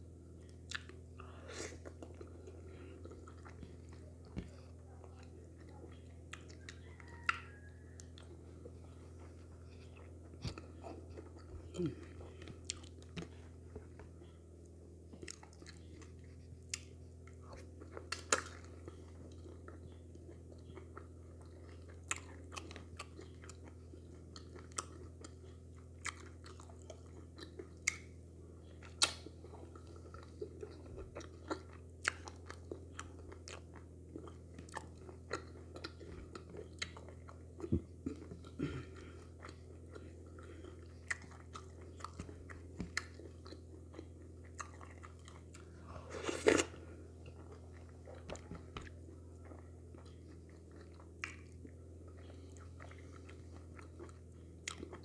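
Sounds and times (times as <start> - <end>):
steady low hum: 0.0 - 55.0
close chewing: 0.4 - 55.0.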